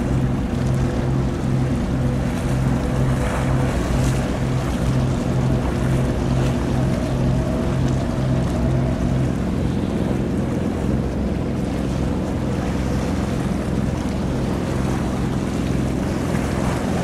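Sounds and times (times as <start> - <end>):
ship engine pulsing drone: 0.0 - 17.0
water noise: 0.0 - 17.0
wind: 0.0 - 17.0.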